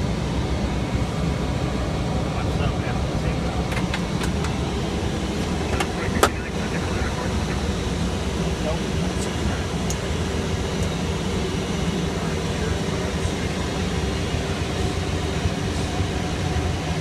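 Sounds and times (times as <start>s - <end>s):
jet engine roar: 0.0s - 17.0s
low droning hum: 0.0s - 17.0s.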